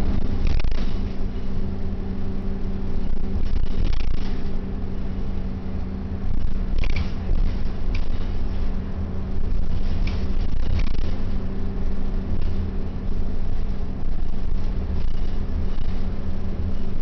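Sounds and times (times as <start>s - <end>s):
clatters in bus cabin: 0.0s - 1.7s, 2.9s - 4.7s, 6.2s - 17.0s
bus engine drone: 0.0s - 17.0s
road rumble: 0.0s - 17.0s.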